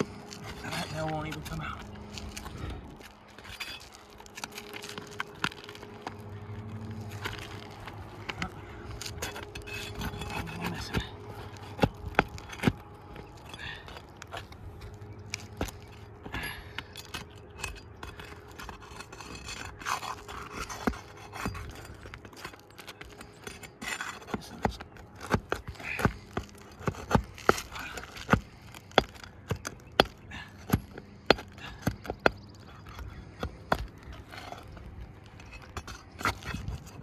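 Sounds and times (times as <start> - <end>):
pry tool scraping under shingles: 0.0 - 37.0.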